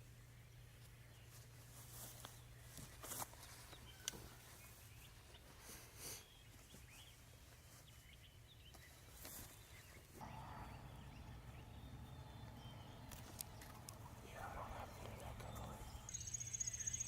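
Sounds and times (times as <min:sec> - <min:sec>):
distant bird chirps: 0:00.0 - 0:17.0.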